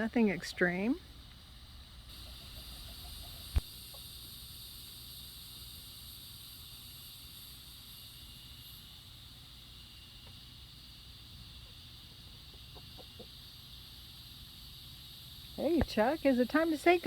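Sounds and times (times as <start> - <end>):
insect chorus trilling: 2.1 - 17.0.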